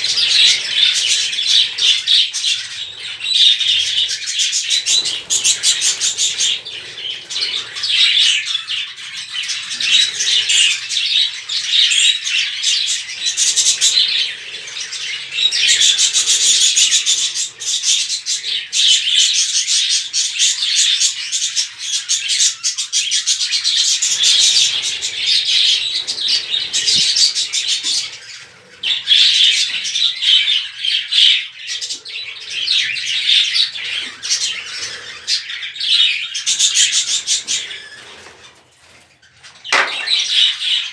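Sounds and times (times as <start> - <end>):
budgerigars chattering: 0.0 - 38.4.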